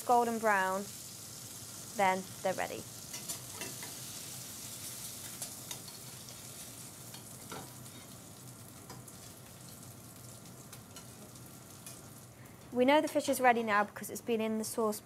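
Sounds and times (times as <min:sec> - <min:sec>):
food sizzling in oil: 0:00.0 - 0:12.4.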